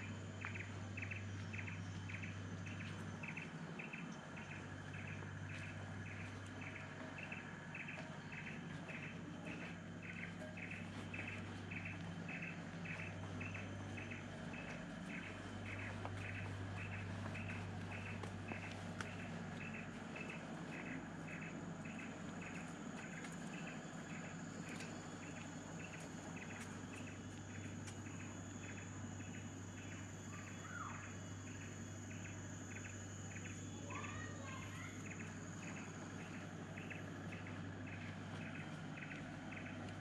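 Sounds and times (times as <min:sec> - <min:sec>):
bird calls: 0:00.0 - 0:40.0
high-pitched insect whine: 0:00.0 - 0:40.0
insects chirping: 0:00.0 - 0:40.0
low steady hum: 0:00.0 - 0:40.0.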